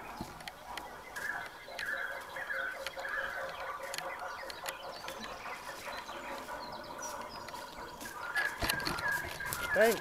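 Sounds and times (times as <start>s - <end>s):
footsteps crunching through leaves: 0.1s - 4.0s, 5.1s - 10.0s.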